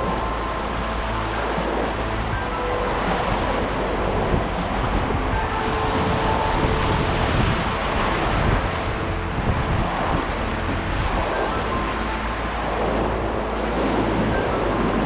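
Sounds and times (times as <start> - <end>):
rushing river water: 0.0 - 15.0
wind buffeting microphone: 0.0 - 15.0.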